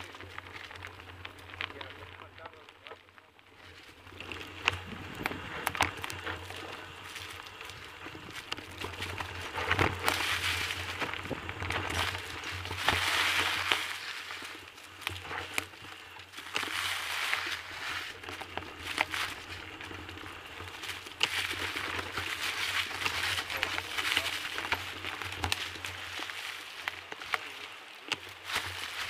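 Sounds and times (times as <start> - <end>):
dry leaves crunching underfoot: 3.5 - 29.0.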